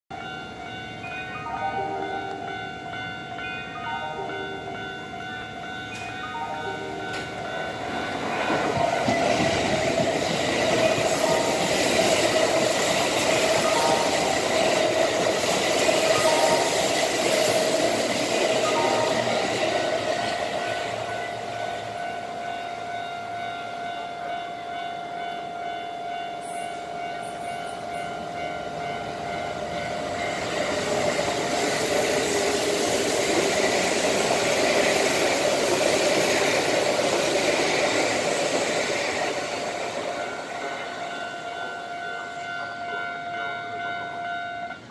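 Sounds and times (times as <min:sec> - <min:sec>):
level crossing alarm ringing: 0:00.1 - 0:44.9
trains passing through station: 0:00.1 - 0:44.9.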